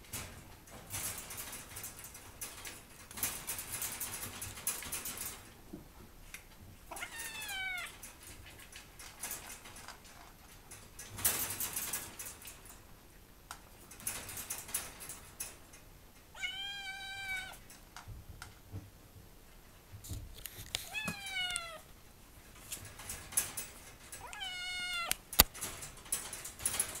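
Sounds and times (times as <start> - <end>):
cage wire rattling: 0.0 - 5.7, 6.3 - 18.0, 20.4 - 27.0.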